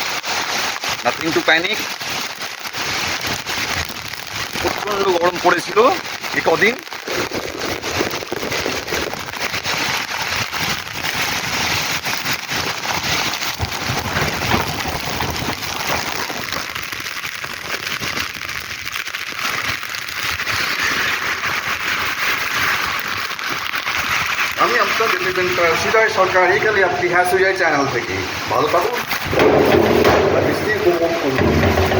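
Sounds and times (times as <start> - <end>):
heavy rain on hard surfaces: 0.0 - 31.9.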